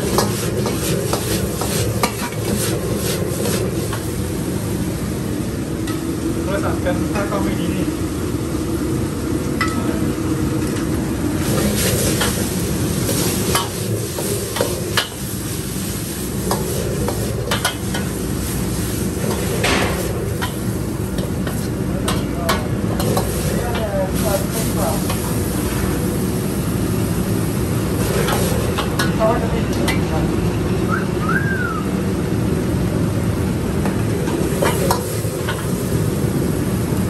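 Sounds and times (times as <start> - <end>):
food sizzling in a wok: 0.0 - 30.0, 33.7 - 37.0
gas flame rumble: 0.0 - 37.0.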